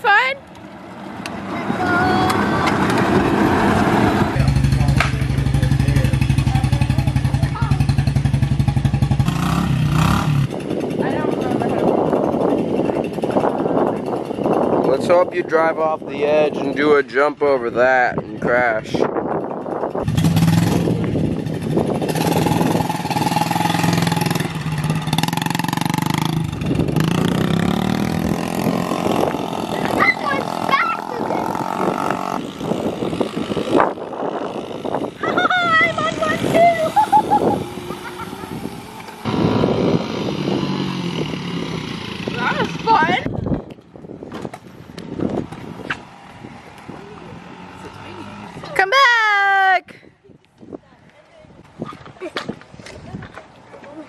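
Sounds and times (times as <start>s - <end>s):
motorcycle engine running: 0.0s - 17.1s, 19.0s - 48.8s.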